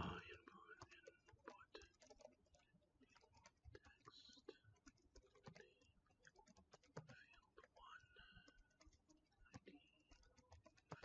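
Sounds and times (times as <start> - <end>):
keyboard typing: 0.0 - 11.0.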